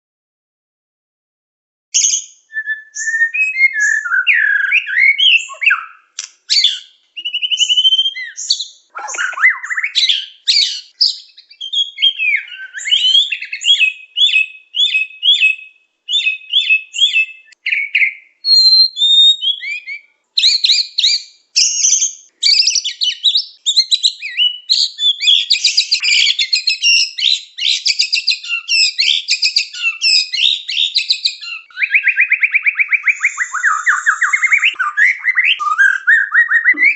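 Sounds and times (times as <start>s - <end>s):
songbird singing: 2.0s - 36.9s.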